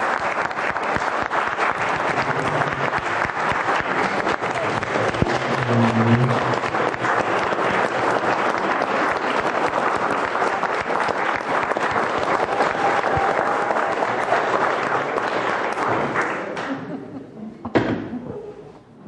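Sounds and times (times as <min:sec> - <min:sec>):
people applauding: 0:00.0 - 0:16.9.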